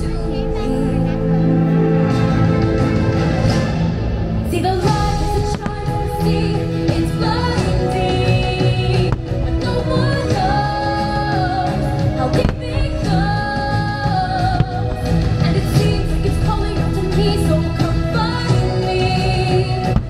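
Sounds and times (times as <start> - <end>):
musical backing: 0.0 - 20.0.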